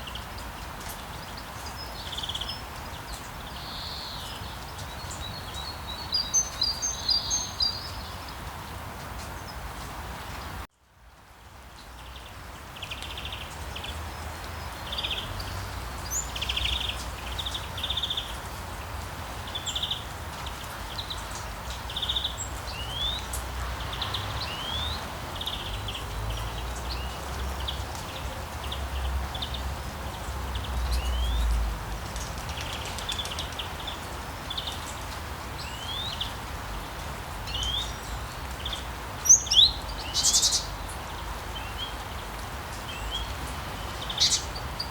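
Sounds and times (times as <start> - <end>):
birds chirping: 0.0 - 10.6, 11.8 - 44.9
steady rain: 0.0 - 44.9.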